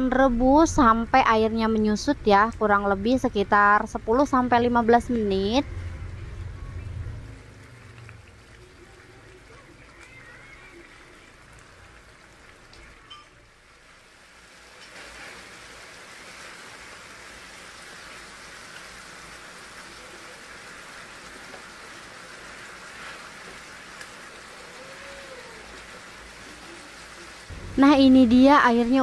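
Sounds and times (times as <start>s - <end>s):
sauce bubbling in a frying pan: 3.2s - 27.7s.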